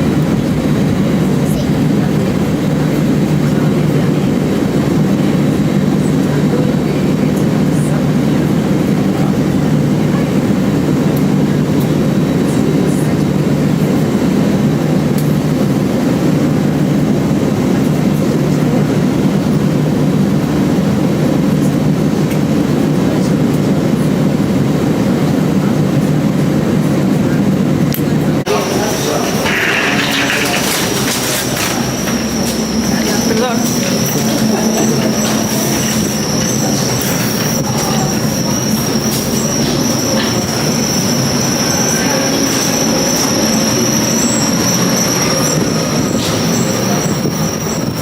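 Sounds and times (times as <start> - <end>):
airplane cabin engine drone: 0.0 - 48.0.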